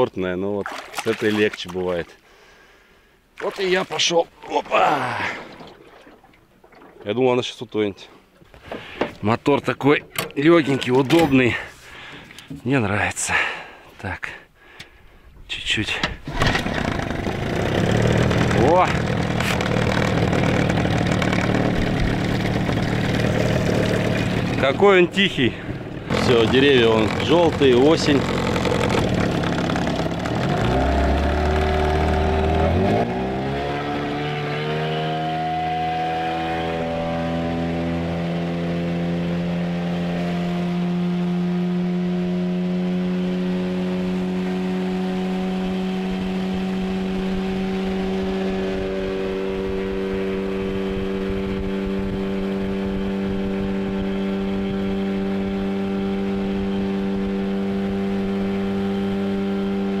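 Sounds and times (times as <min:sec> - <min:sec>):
outboard motor running: 0:00.6 - 0:02.7, 0:03.4 - 0:12.6, 0:16.0 - 1:00.0.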